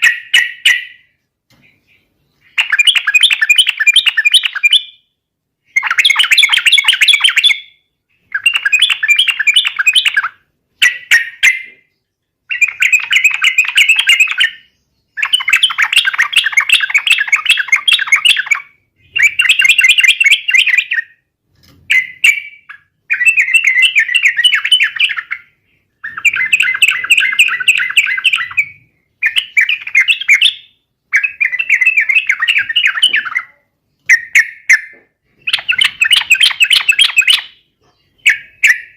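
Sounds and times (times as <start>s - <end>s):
bulbul singing: 0.0s - 21.3s, 21.9s - 38.9s.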